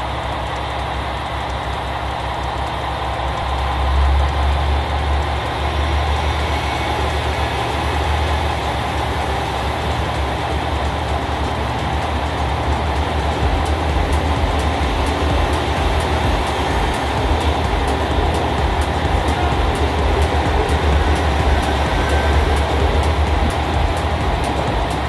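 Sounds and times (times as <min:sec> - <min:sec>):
diesel railcar engine idling: 0:00.0 - 0:25.0.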